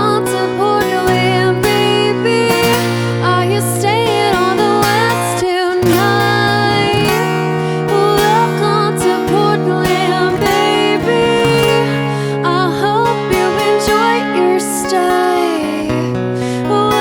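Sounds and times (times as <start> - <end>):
guitar: 0.0 - 17.0.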